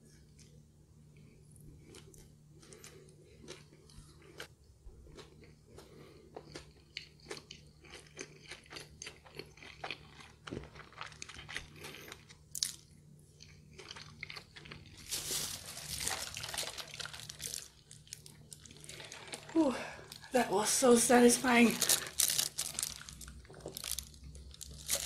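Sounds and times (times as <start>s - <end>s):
person chewing crunchy food: 1.2s - 20.2s, 21.8s - 25.0s.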